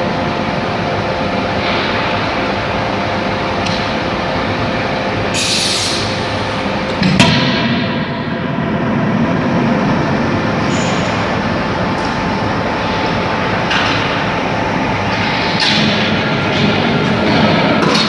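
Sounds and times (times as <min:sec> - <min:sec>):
machinery rumble: 0:00.0 - 0:18.0.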